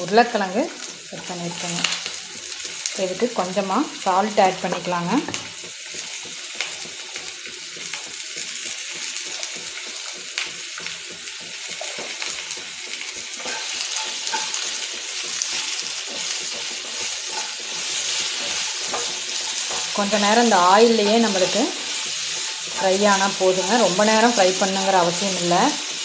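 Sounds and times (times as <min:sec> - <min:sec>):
vegetables sizzling in oil: 0:00.0 - 0:26.0
wooden spatula stirring in pan: 0:00.8 - 0:26.0.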